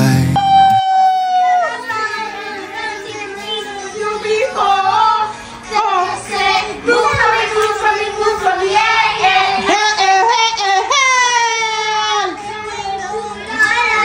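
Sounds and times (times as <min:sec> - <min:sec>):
girl and woman singing: 0:01.7 - 0:14.0.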